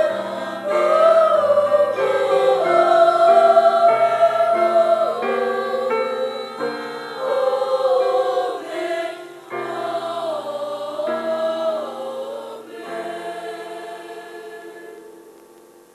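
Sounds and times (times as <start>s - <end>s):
boys' choir singing in harmony: 0.0s - 15.4s.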